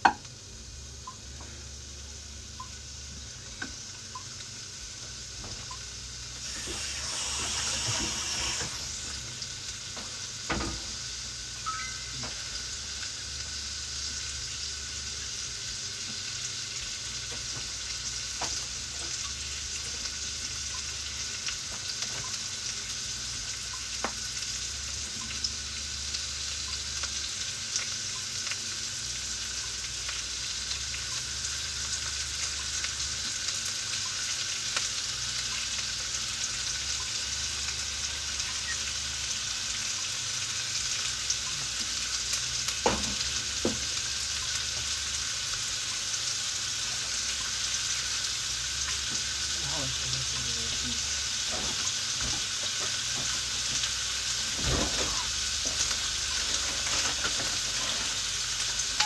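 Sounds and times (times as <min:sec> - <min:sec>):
meat sizzling in frying pan: 0:00.0 - 0:59.0.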